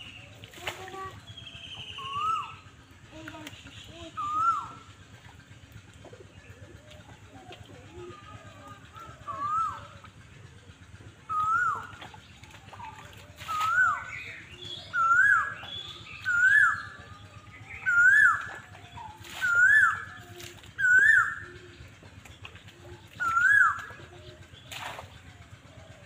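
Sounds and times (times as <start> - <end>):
animal calling: 3.9 - 26.0.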